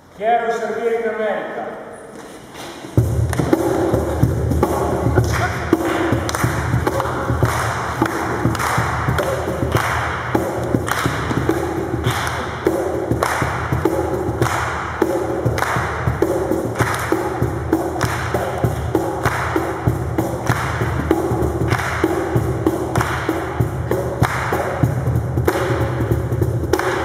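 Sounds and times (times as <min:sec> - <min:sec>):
loud music with thumping beat: 0:03.0 - 0:27.0.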